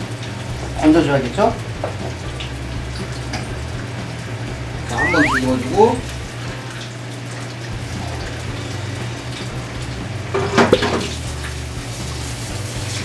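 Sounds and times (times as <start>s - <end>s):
hot oil sizzling in fryer: 0.0s - 5.4s, 6.2s - 13.0s.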